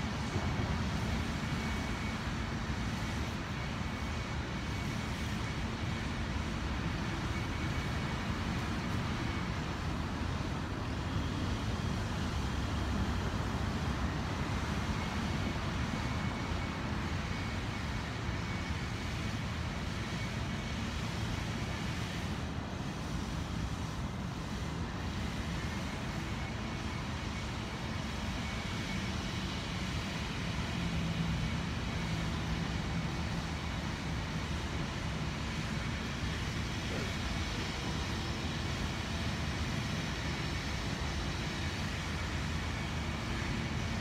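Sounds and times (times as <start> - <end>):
city background rumble: 0.0 - 44.0.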